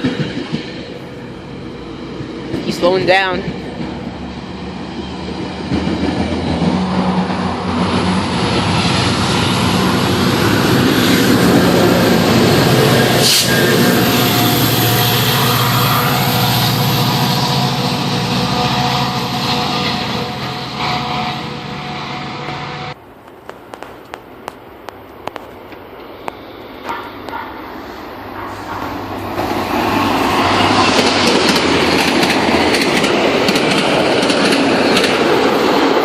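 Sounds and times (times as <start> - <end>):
train rumbling past: 0.0 - 23.0, 25.3 - 36.0.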